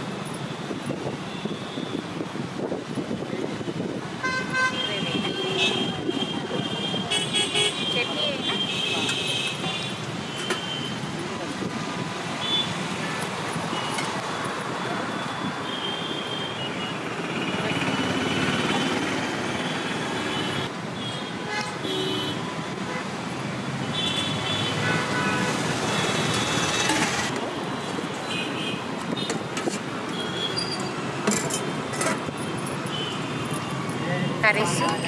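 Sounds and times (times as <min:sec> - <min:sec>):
road traffic: 0:00.0 - 0:35.0.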